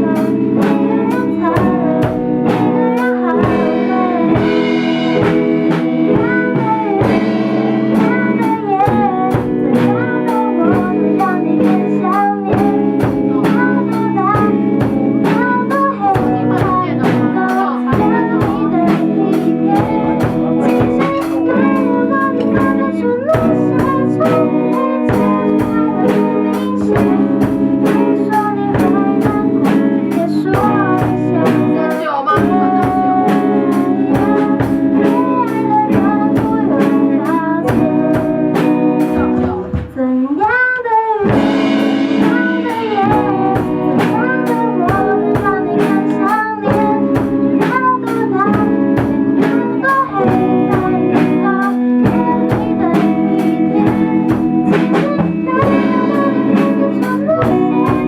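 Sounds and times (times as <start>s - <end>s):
live pop song singing: 0.0s - 58.0s.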